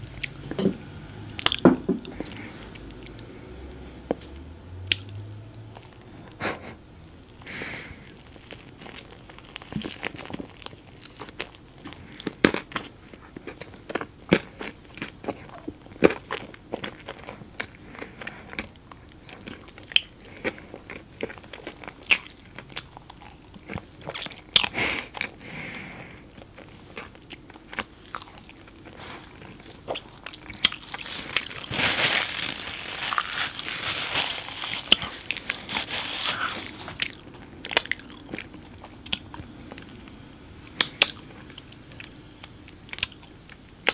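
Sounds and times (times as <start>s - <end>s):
chewing with crunches: 0.0s - 0.6s, 1.3s - 3.5s, 4.8s - 6.5s, 7.3s - 43.9s.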